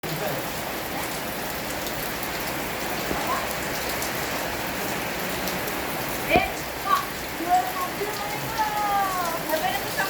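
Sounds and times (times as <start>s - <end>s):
heavy rain hissing: 0.0s - 10.0s
raindrop ticks: 1.5s - 10.0s.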